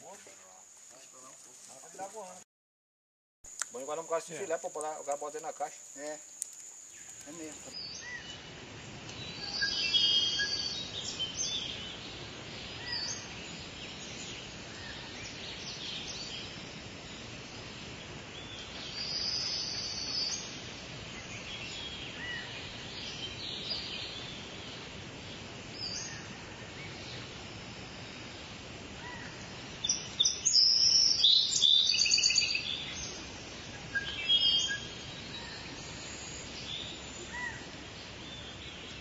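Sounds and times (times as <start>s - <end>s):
steady outdoor hiss: 0.0s - 2.5s, 3.5s - 39.0s
birds calling and chirping: 3.7s - 39.0s.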